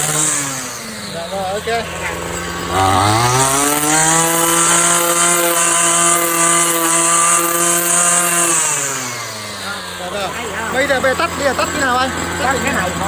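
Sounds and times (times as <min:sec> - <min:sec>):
string trimmer engine revving: 0:00.0 - 0:13.0.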